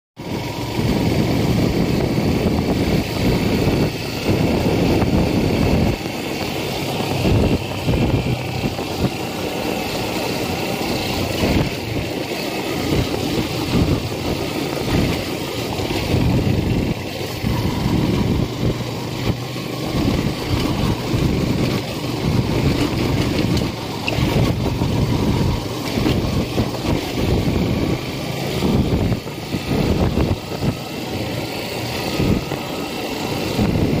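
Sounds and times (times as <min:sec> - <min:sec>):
motorcycle engine running: 0:00.2 - 0:34.0.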